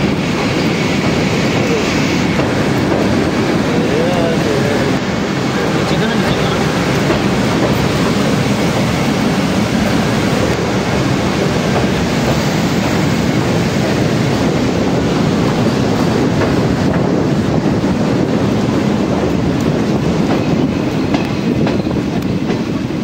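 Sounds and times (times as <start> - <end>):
train wheels rumbling on bridge: 0.0 - 23.0.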